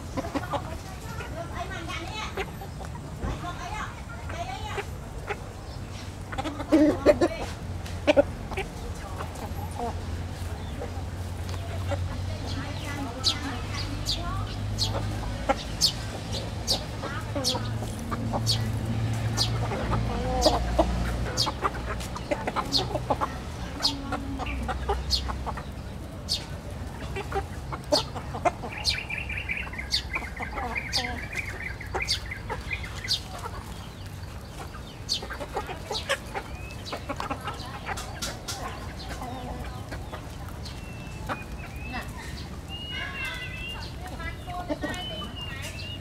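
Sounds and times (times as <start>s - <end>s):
beaks pecking on dirt: 0.0s - 46.0s
chickens clucking: 0.0s - 46.0s.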